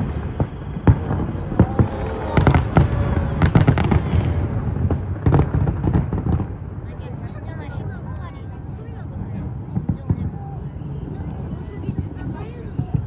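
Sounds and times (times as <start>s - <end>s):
continuous low rumble: 0.0s - 13.0s
fireworks bangs and crackles: 0.0s - 13.0s.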